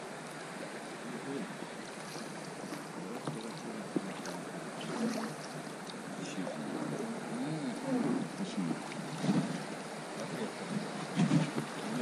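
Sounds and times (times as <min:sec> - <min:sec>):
river water gurgling and lapping: 0:00.0 - 0:12.0.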